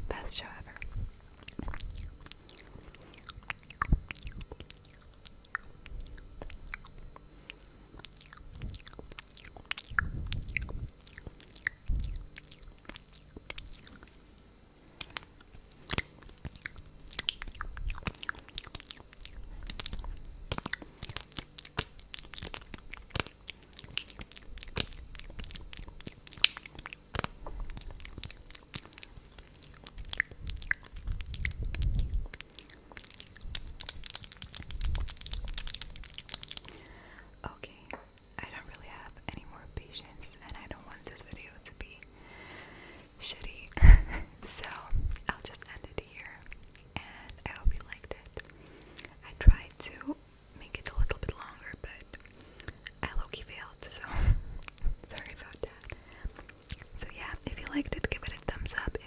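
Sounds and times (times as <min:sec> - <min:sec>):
wet lips smacking: 0:00.4 - 0:37.3, 0:37.9 - 0:42.1, 0:43.4 - 0:50.0, 0:50.7 - 0:59.0.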